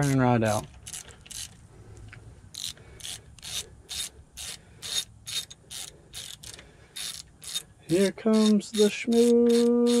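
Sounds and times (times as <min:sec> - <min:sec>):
hand ratchet rasping: 0:00.0 - 0:10.0.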